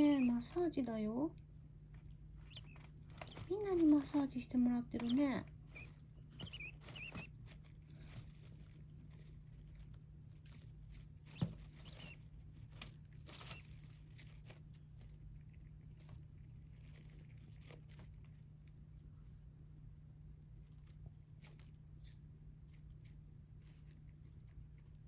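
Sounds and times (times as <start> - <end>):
birds pecking and shuffling: 0.0 - 25.0
steady low hum: 0.0 - 25.0.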